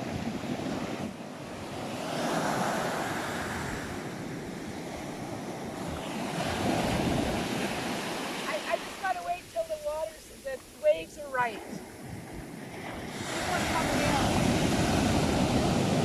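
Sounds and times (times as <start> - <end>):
waves breaking on shore: 0.0 - 16.0.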